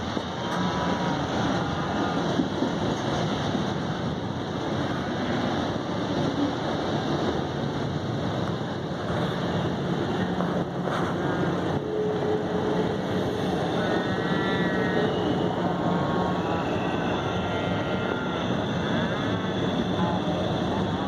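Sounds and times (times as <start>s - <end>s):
car road noise rumbling: 0.0s - 21.0s.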